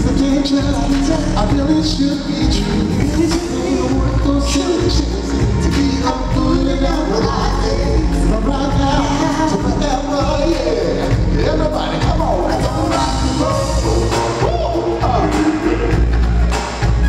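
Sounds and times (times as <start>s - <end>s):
lead singer singing: 0.0s - 16.8s
drums: 0.0s - 17.0s
keyboards: 0.0s - 17.0s.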